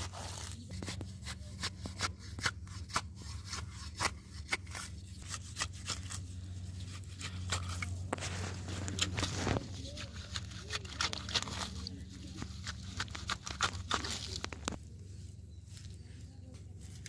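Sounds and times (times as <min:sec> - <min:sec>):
grass rustling and snapping: 0:00.0 - 0:14.9
steady low hum: 0:00.0 - 0:17.0.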